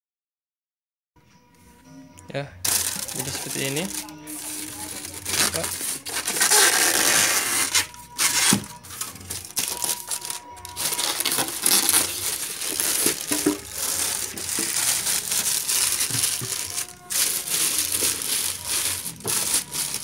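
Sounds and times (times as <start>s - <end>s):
plastic bag crinkling: 2.6s - 20.0s.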